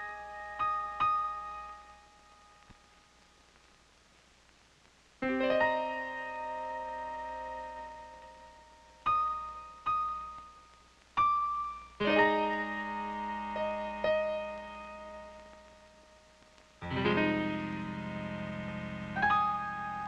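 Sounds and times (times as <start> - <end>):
slow sparse piano music: 0.0 - 2.6, 5.2 - 20.0.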